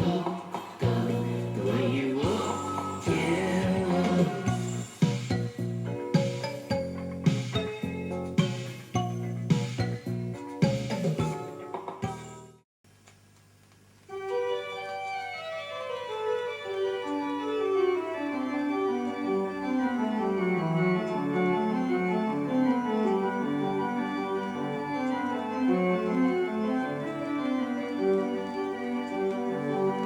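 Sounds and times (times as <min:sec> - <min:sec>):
organ music from a record: 0:00.0 - 0:12.6, 0:14.1 - 0:30.0.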